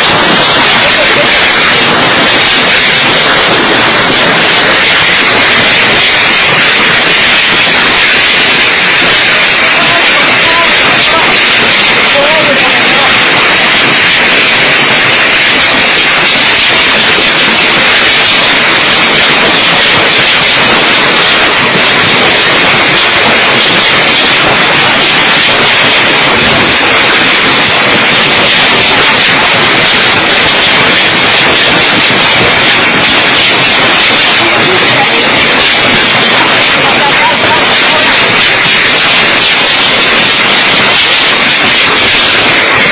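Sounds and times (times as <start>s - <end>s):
heavy rain: 0.0s - 42.9s
wind roaring: 0.0s - 42.9s.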